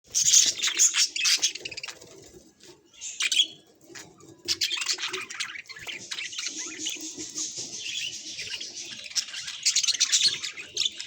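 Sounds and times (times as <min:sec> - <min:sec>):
budgerigars chirping and chattering: 0:00.1 - 0:02.1, 0:02.9 - 0:11.0.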